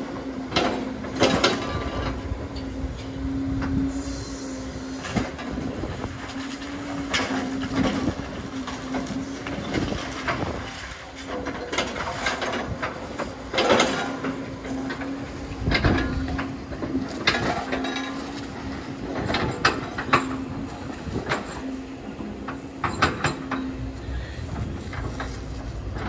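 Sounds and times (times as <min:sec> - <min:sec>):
heavy machinery engine hum: 0:00.0 - 0:26.0.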